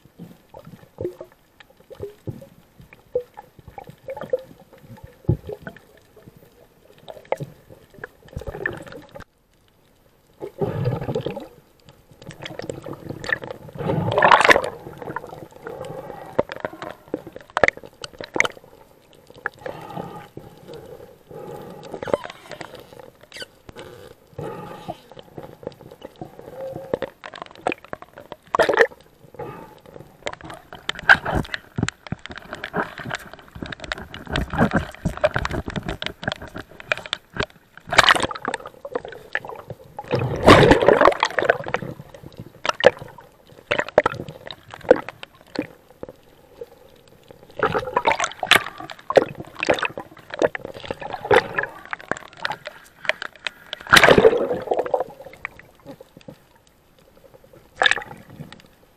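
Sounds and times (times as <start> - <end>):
water gurgling and sloshing: 0.0 - 58.9
sharp clicks underwater: 0.1 - 58.8.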